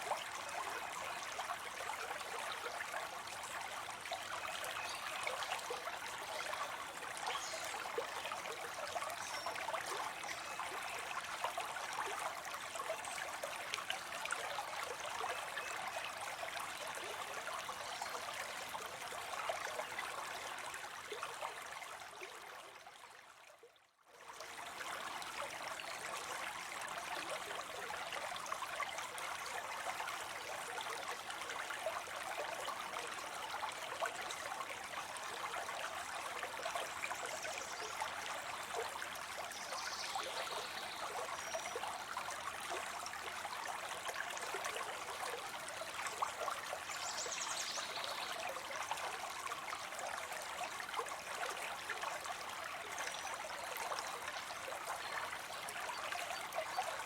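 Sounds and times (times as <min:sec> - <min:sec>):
water trickling into a pond: 0:00.0 - 0:57.0.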